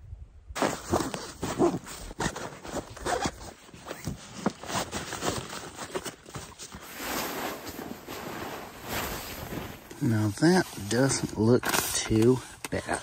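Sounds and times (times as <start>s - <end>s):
fabric rustling: 0.6s - 12.6s.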